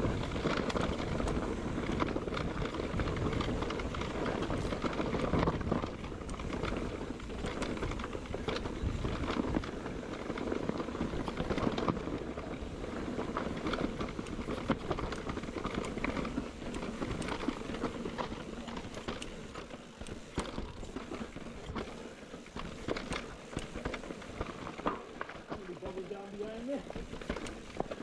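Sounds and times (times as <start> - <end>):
bike rattling and knocking: 0.0 - 28.0.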